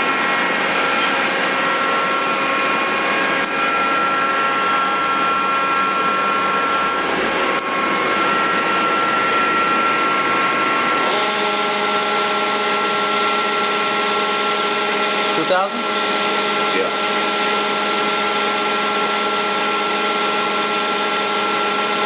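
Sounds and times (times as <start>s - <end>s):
lathe whine: 0.0s - 22.0s.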